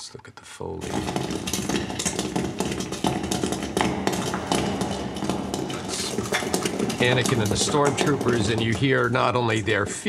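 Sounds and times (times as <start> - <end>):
armour rattling and clacking: 0.8 - 10.0
marching footsteps: 0.8 - 10.0.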